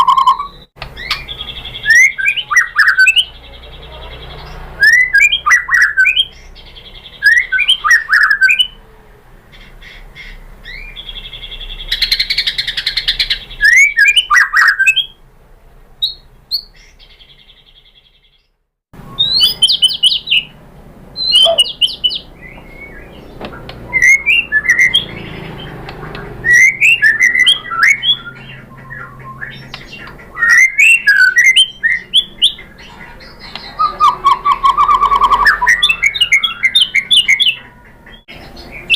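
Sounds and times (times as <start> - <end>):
bird singing whistled notes: 0.0 - 8.8, 10.6 - 15.2, 16.0 - 18.4, 19.0 - 20.6, 21.2 - 32.8, 33.4 - 37.6.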